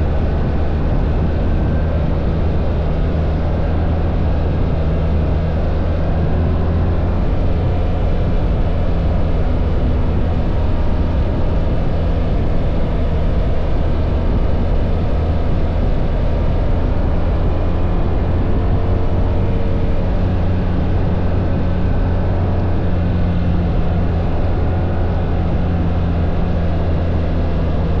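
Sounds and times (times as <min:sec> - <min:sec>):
motorcycle engine cruising: 0:00.0 - 0:28.0
road noise: 0:00.0 - 0:28.0
wind noise: 0:00.0 - 0:28.0.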